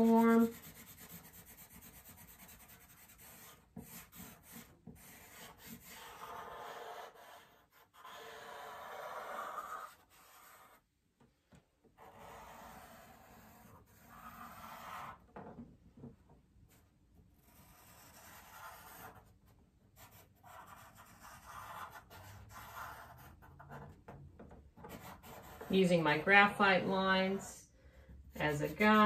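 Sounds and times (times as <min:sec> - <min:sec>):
charcoal pencil scratching paper: 0:00.0 - 0:10.9, 0:12.0 - 0:15.2, 0:16.7 - 0:24.1, 0:24.8 - 0:26.0, 0:28.2 - 0:29.0.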